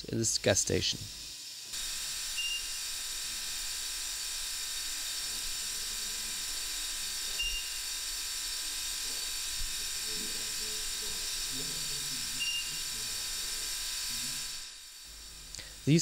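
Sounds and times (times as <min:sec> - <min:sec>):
gas flowing hiss: 0:00.0 - 0:16.0.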